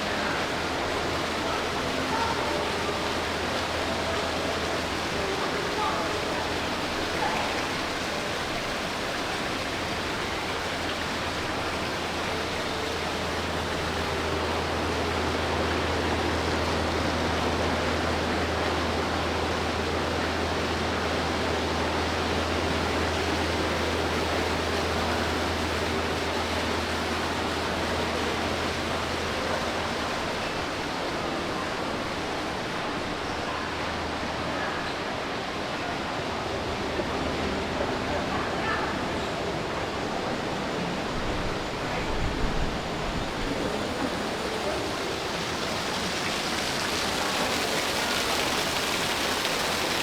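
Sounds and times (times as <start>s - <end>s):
wash of mall noise: 0.0s - 50.0s.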